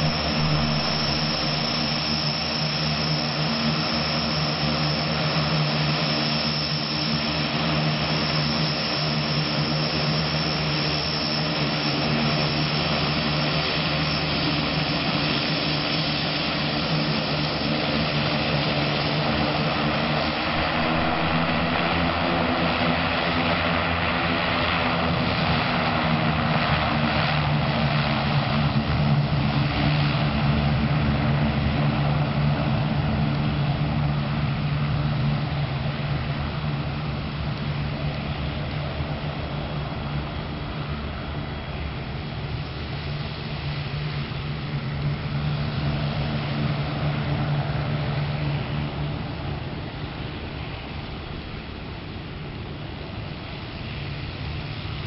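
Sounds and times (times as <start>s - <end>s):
turboprop engines running: 0.0s - 55.0s.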